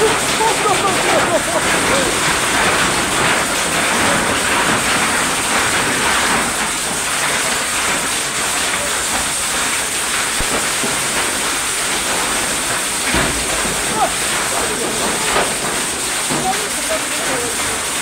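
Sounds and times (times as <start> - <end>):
hail impacts: 0.0 - 18.0
heavy rain on paving: 0.0 - 18.0.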